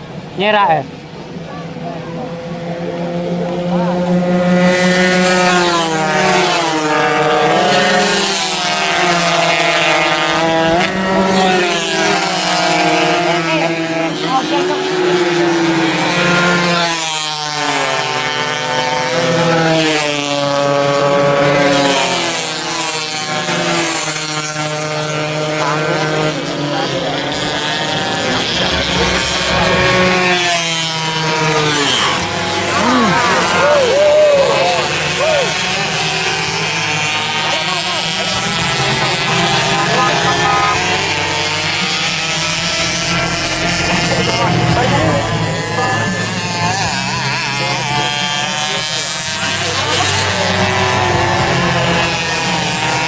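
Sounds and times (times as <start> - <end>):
racing motorcycle engines revving: 0.0 - 53.0.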